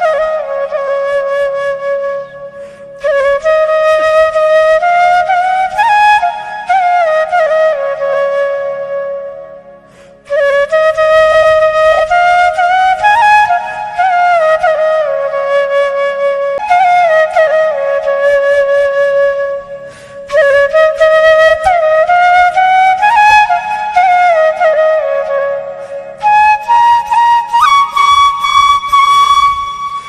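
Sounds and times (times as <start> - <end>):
bamboo flute melody: 0.0 - 30.0.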